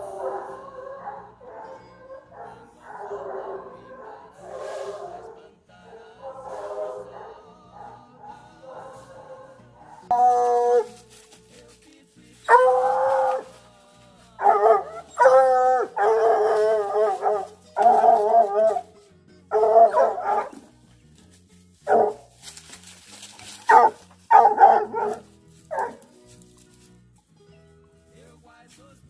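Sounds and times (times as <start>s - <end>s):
hounds baying: 0.0s - 11.6s, 12.3s - 20.9s, 21.8s - 26.8s.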